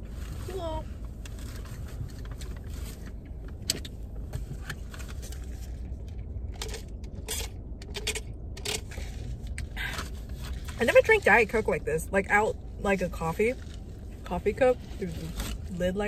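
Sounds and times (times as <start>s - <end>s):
low car cabin rumble: 0.0s - 16.0s.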